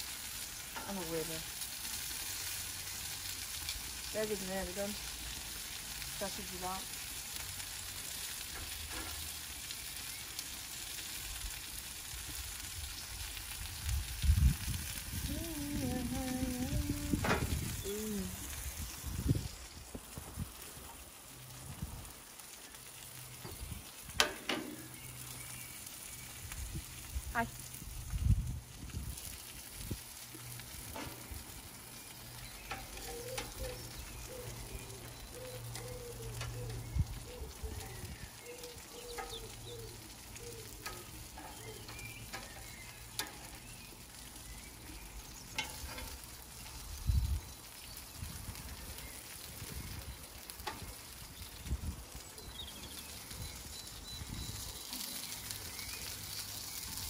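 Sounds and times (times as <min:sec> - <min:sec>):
meat sizzling on a grill: 0:00.0 - 0:57.0.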